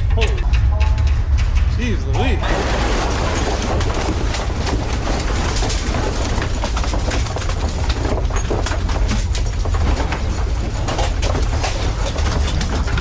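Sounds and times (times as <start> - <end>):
earthquake low rumble: 0.0 - 13.0.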